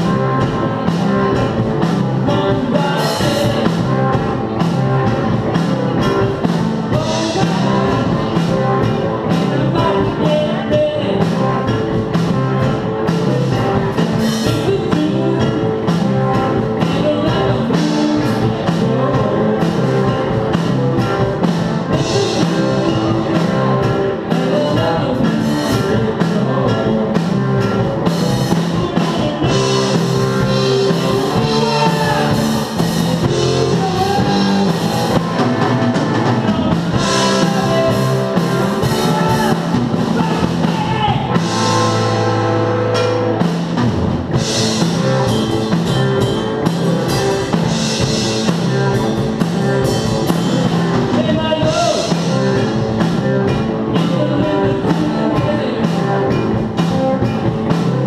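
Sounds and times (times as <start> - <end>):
person singing: 0.0 - 43.2, 44.4 - 58.0
live rock band playing: 0.0 - 58.0.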